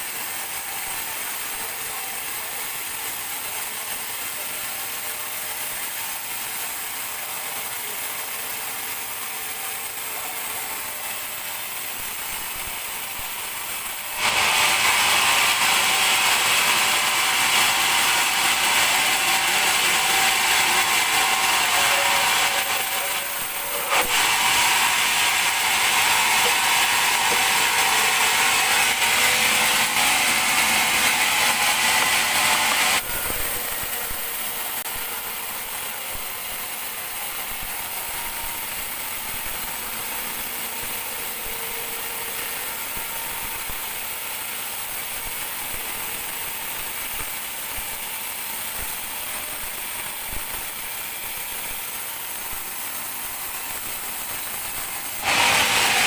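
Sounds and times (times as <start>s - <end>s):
band saw cutting log: 0.0s - 56.0s
band saw running: 0.0s - 56.0s.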